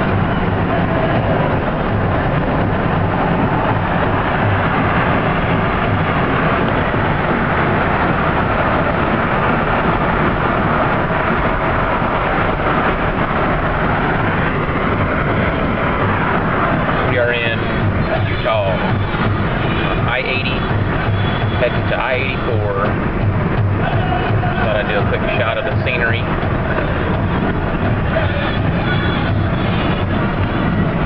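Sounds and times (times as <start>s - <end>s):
car road and wind noise: 0.0s - 31.0s.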